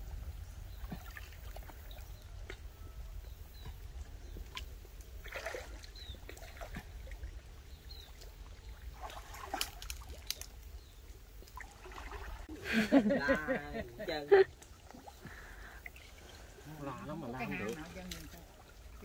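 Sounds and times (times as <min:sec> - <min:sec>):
water sloshing and splashing: 0:00.7 - 0:02.9, 0:03.6 - 0:12.6, 0:13.4 - 0:19.0.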